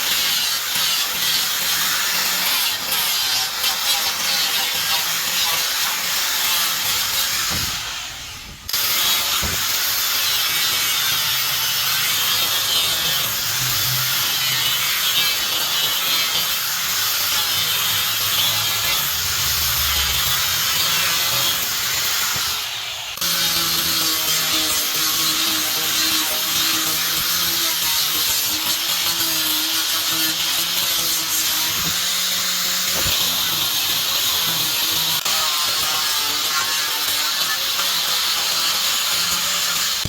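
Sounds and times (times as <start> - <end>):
lathe tool cutting wood: 0.0 - 40.0.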